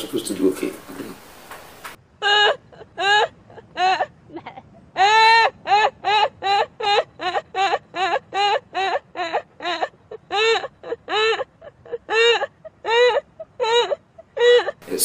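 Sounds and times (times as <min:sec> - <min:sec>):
woman laughing hard: 0:02.2 - 0:14.8.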